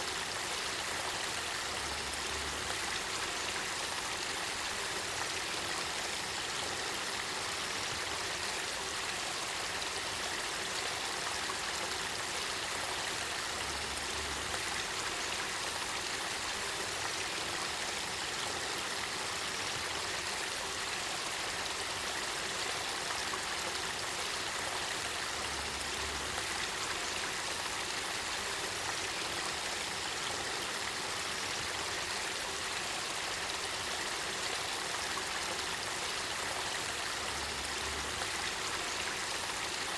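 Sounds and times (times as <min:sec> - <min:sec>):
river water flowing and babbling: 0:00.0 - 0:39.9.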